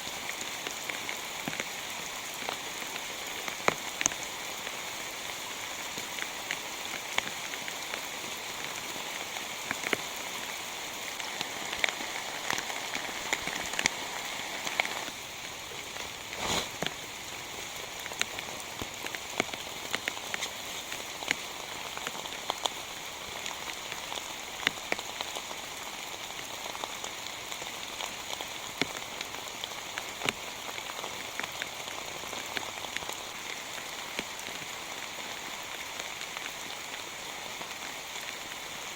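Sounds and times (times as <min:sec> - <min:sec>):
heavy rain falling: 0:00.0 - 0:38.9
raindrops ticking on a surface: 0:00.0 - 0:38.9.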